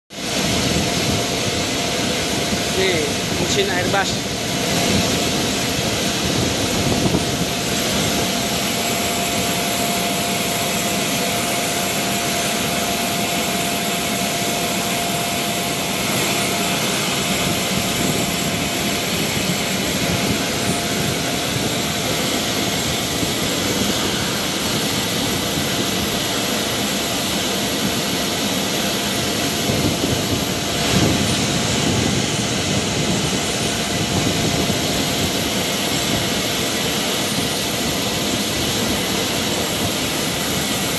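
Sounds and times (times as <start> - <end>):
high thin turbine whine: 0.1 - 40.9
jet turbine rushing air: 0.1 - 40.9.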